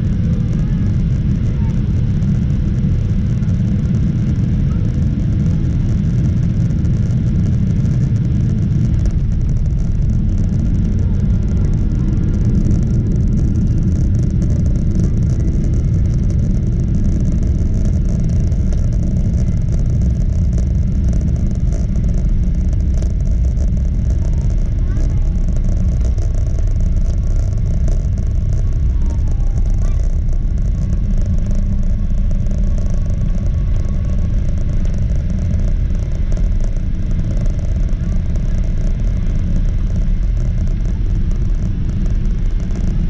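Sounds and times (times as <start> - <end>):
airplane cabin rumble: 0.0 - 43.0.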